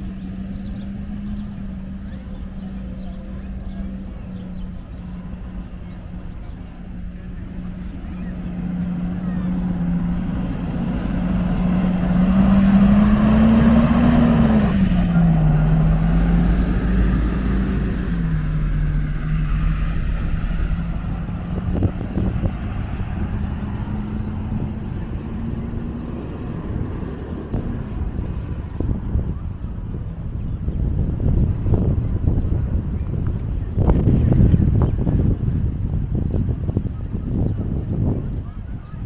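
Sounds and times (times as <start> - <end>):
engine droning past: 0.0 - 39.0.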